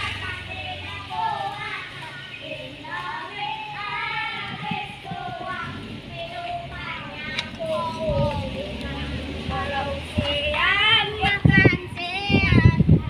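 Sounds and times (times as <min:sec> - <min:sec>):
car engine hum: 0:00.0 - 0:13.0
children singing and calling out: 0:00.0 - 0:13.0.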